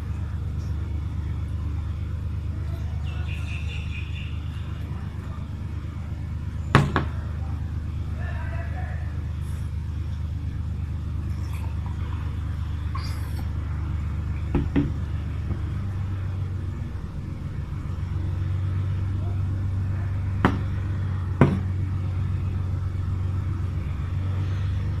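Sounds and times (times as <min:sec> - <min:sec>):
low motor rumble: 0:00.0 - 0:25.0.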